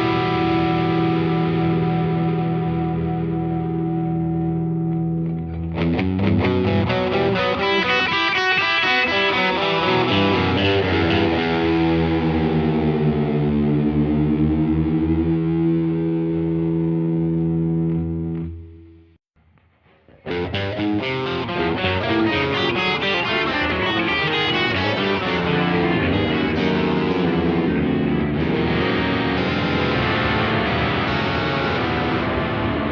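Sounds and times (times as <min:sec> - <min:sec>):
overdriven electric guitar with delay: 0:00.0 - 0:32.9.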